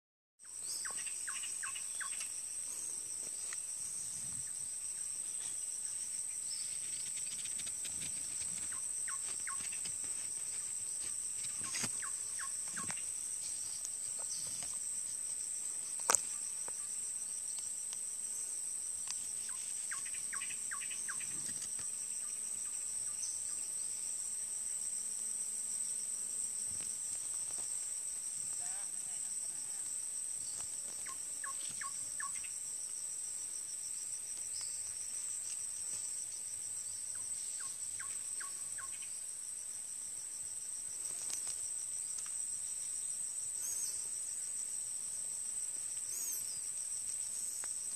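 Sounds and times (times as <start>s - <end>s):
insect chorus drone: 0.4s - 47.9s.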